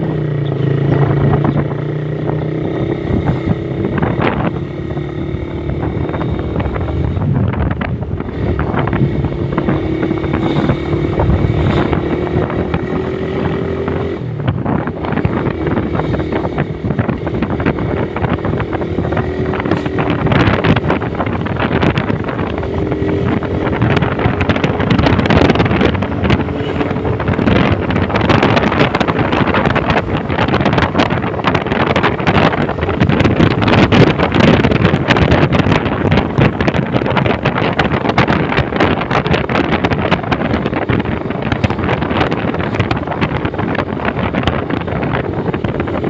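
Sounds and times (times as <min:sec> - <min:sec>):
motorcycle engine running: 0:00.0 - 0:46.0
wind noise on microphone: 0:00.0 - 0:46.0.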